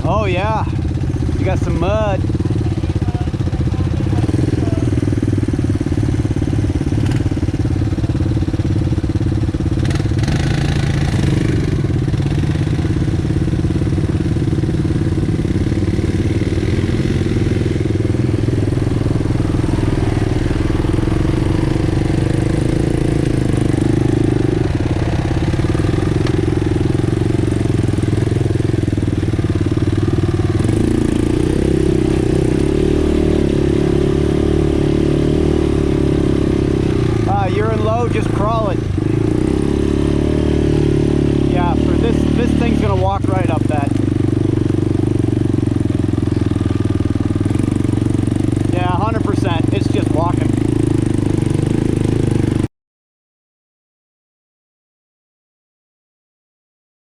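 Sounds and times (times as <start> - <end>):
atv engine running: 0.0 - 52.7.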